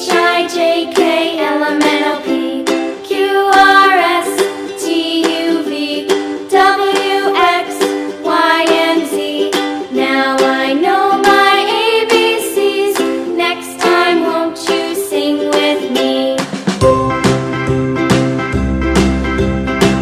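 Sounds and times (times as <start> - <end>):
ukulele tune: 0.0 - 20.0.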